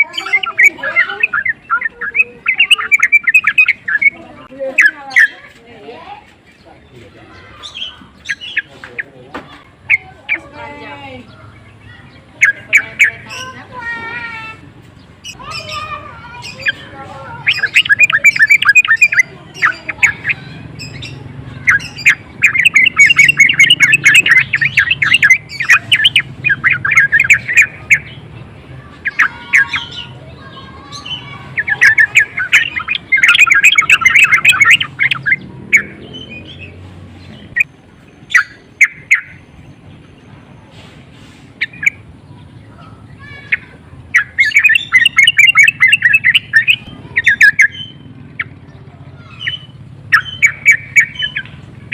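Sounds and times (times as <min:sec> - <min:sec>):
bulbul chattering call: 0:00.0 - 0:05.6, 0:07.2 - 0:51.9.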